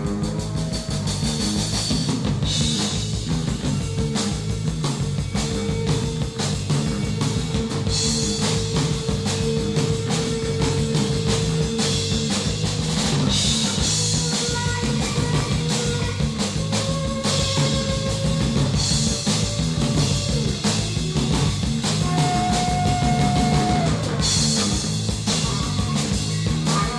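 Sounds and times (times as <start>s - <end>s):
fast steady drumming: 0.0s - 26.9s
rock band playing live: 0.0s - 26.9s.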